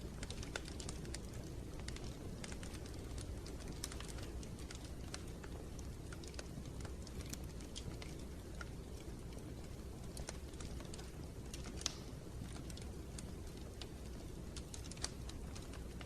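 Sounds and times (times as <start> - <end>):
fire pops and snaps: 0.0 - 16.0
low fire rumble: 0.0 - 16.0.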